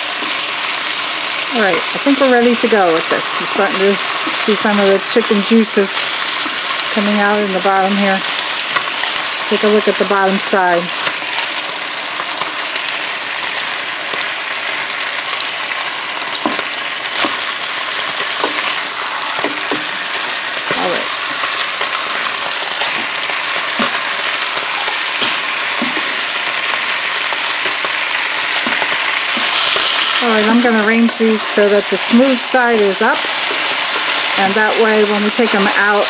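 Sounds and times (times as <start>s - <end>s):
chicken sizzling in hot oil: 0.0s - 36.0s.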